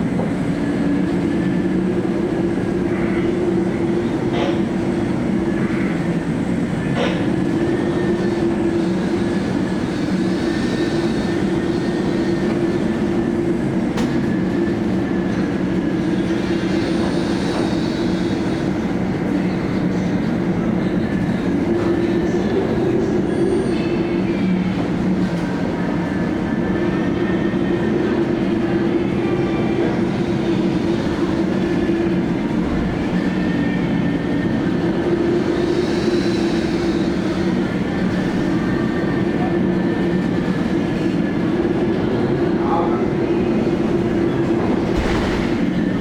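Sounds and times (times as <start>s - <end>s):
ship engines droning: 0.0s - 46.0s.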